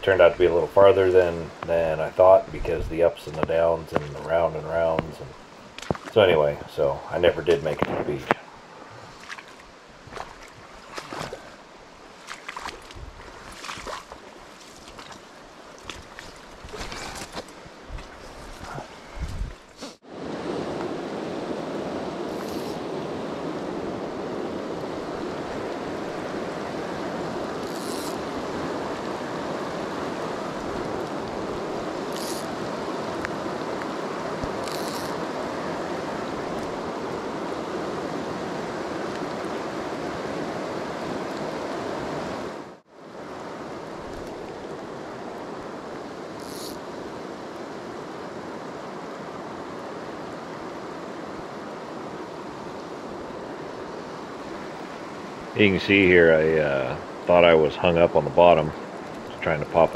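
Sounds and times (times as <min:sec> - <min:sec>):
river flowing over riffles: 0:00.0 - 0:59.9.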